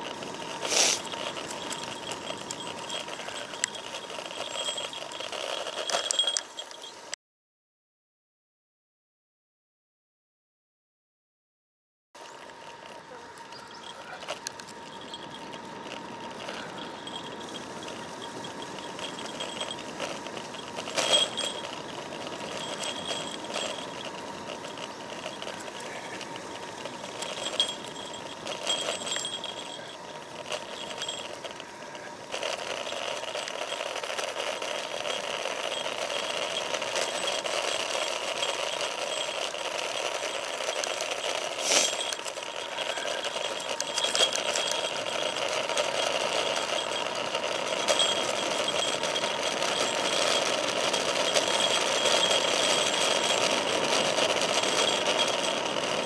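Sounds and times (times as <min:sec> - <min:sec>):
bike jolting over bumps: 0:00.0 - 0:07.0, 0:12.2 - 0:56.0
freewheel buzzing: 0:00.0 - 0:07.0, 0:12.2 - 0:56.0
bike tyre and wind noise: 0:00.0 - 0:07.2, 0:12.2 - 0:56.0
gear rattling on handlebar: 0:00.0 - 0:07.2, 0:12.2 - 0:56.0.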